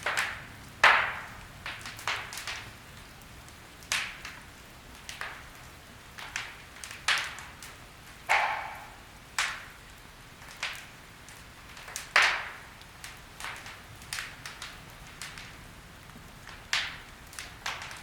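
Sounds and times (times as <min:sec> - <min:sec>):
firewood crackling and popping: 0:00.0 - 0:18.0.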